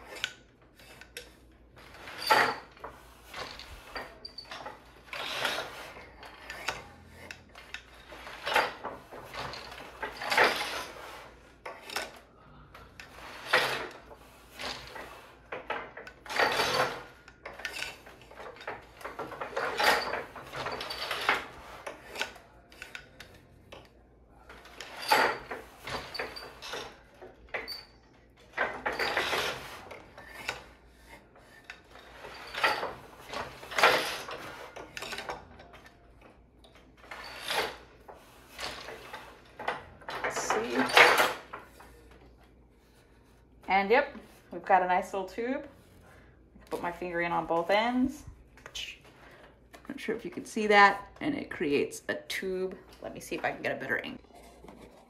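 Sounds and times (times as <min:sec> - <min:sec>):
loom rubbing sliding and knocking: 0:00.0 - 0:48.4.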